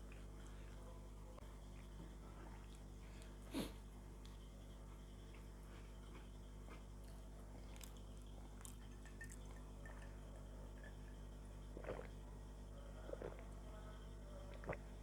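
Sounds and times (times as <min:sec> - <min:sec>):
soft chewing: 0:00.0 - 0:12.3, 0:12.9 - 0:13.8, 0:14.4 - 0:15.0
steady low hum: 0:00.0 - 0:15.0.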